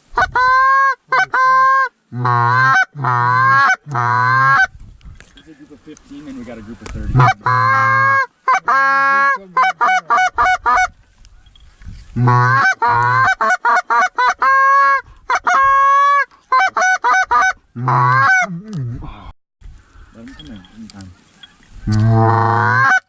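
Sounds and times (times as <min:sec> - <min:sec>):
goose call honks and clucks: 0:00.0 - 0:04.8, 0:06.5 - 0:11.5, 0:12.1 - 0:19.2, 0:20.2 - 0:23.0.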